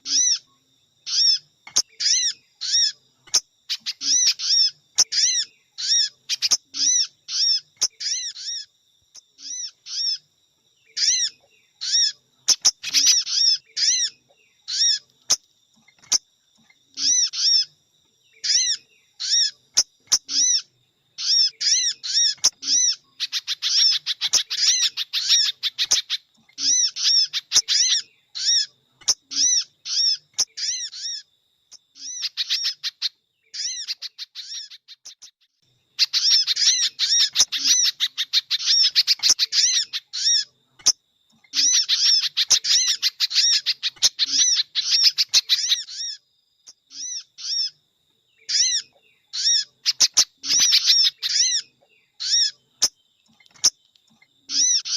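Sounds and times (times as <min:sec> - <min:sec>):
high bird chirps: 0:00.0 - 0:54.9.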